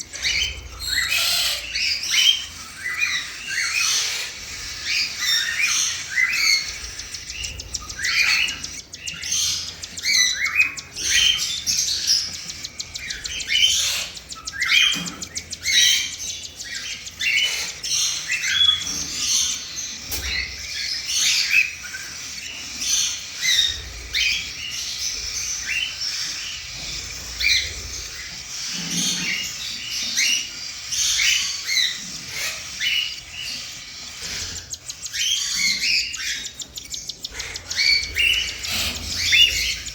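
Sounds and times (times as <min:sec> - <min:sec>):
cockatiel chicks chirping and squawking: 0:00.0 - 0:39.9.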